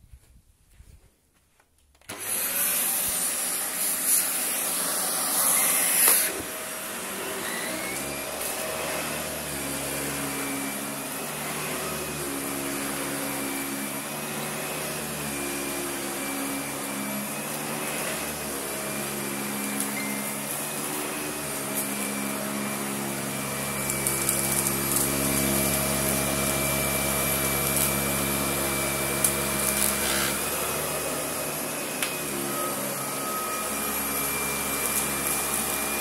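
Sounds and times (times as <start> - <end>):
vacuum cleaner running: 2.1 - 36.0.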